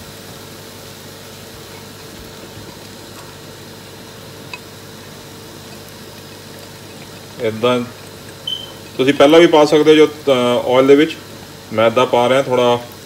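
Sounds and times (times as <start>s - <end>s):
faint steady hum: 0.0s - 13.0s
food sizzling in a pan: 0.0s - 13.0s
pot of noodles boiling: 0.0s - 13.0s.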